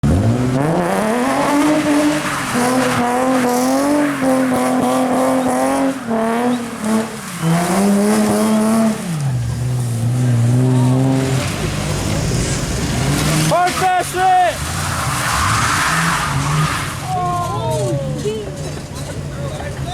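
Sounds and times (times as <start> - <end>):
car engine revving: 0.0 - 19.5
tyres spinning on wet pavement: 0.0 - 19.9.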